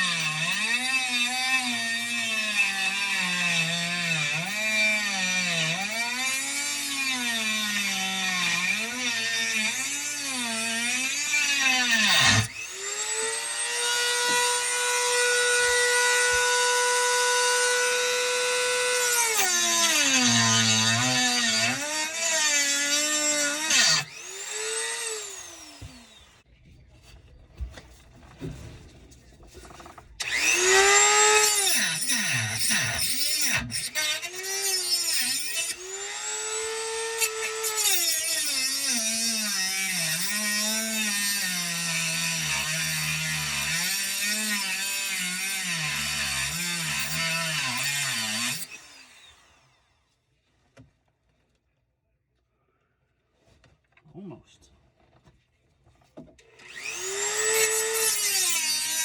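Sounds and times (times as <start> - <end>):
power tool cutting metal: 0.0 - 26.4, 30.2 - 49.5, 56.6 - 59.0.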